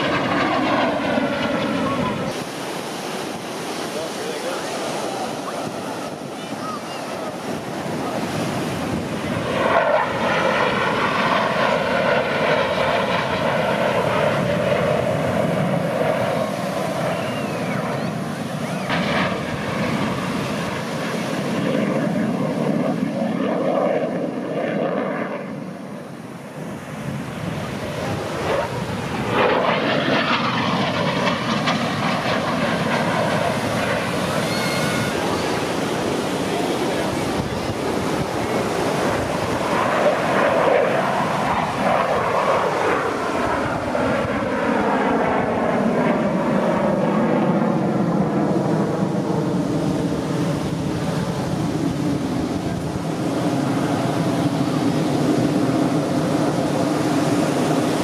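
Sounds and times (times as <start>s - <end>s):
fighter jets roaring past: 0.0s - 58.0s.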